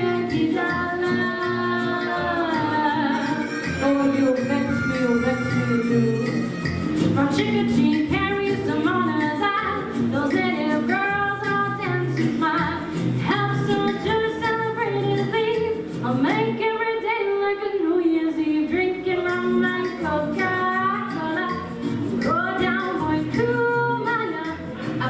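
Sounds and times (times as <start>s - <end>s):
live band accompaniment: 0.0s - 16.6s, 18.7s - 25.0s
woman singing into a microphone: 0.0s - 25.0s.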